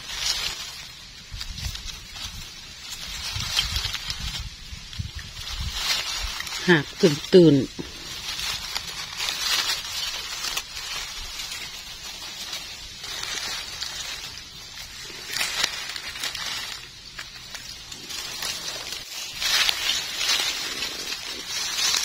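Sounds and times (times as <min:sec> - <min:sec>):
dry leaves and grass rustling: 0:00.0 - 0:22.0.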